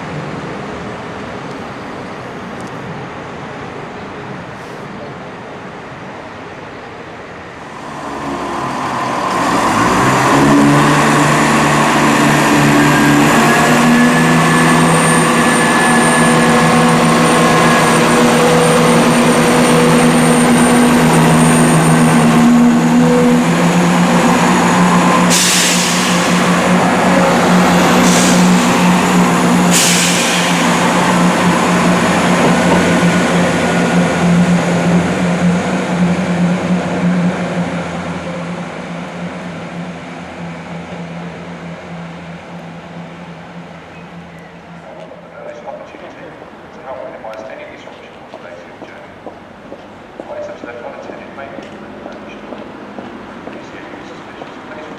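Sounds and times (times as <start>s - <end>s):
diesel train engine: 0.0s - 54.9s.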